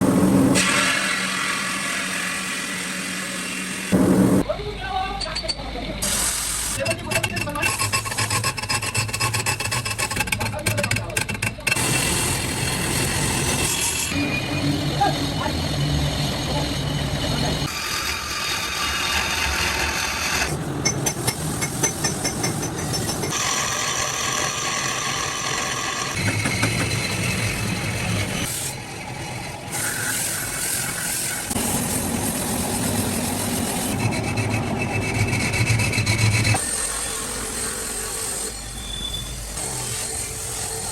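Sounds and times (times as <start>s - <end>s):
machines grinding marble: 0.2s - 4.4s, 5.2s - 38.8s.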